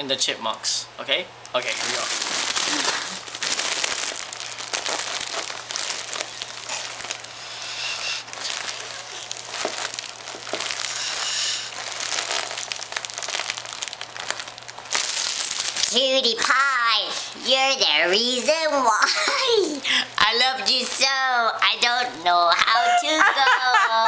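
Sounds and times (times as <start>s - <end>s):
foil balloon crinkling: 1.5s - 22.2s.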